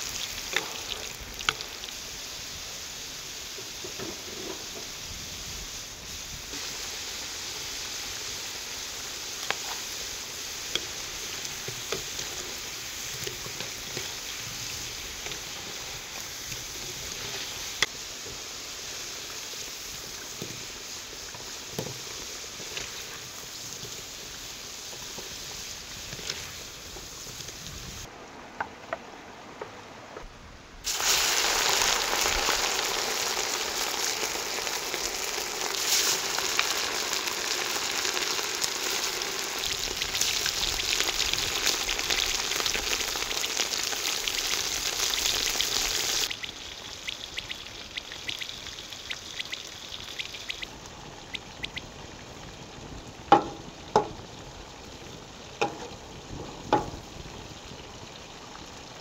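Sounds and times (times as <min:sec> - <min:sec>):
meat sizzling in hot oil: 0:00.0 - 0:28.1, 0:30.8 - 0:59.0.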